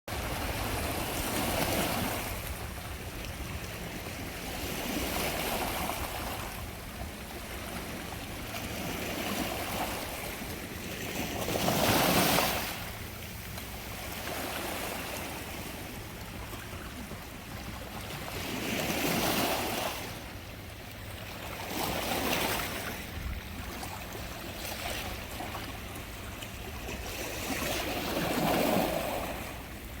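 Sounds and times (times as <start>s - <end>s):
waves breaking on a shore: 0.1s - 30.0s.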